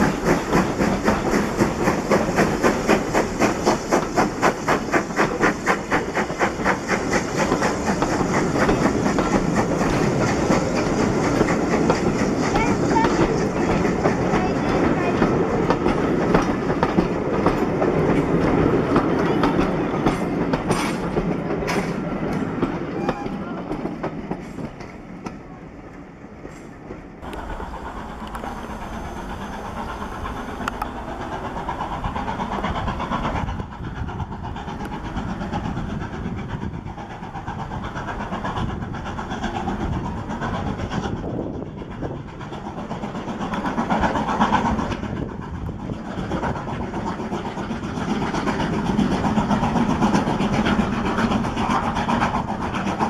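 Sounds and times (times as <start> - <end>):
steam locomotive working a train: 0.0 - 53.0.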